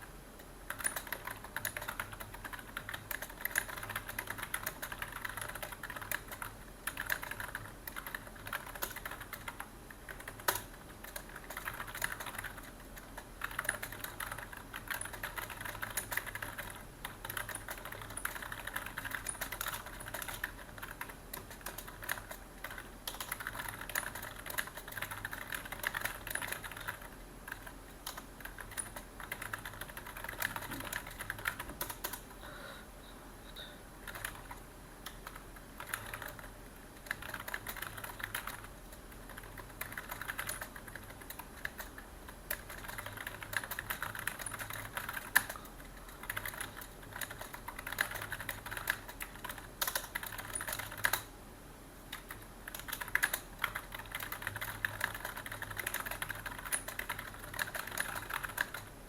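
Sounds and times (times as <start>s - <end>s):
faint low hum: 0.0s - 59.0s
computer keyboard typing: 0.4s - 32.2s, 34.0s - 51.3s, 52.1s - 59.0s.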